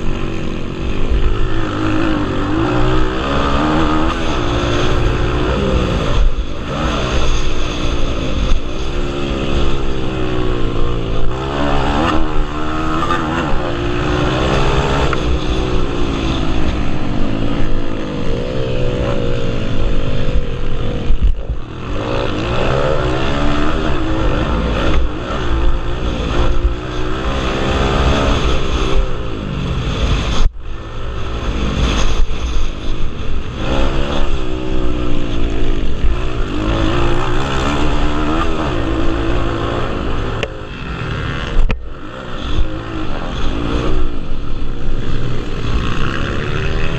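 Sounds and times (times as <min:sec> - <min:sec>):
pit bike engines revving: 0:00.0 - 0:46.9.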